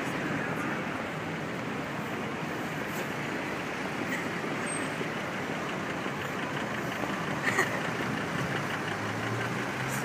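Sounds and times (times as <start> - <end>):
motor vehicle engine rumbling: 0.0 - 10.0
street traffic: 0.0 - 10.0.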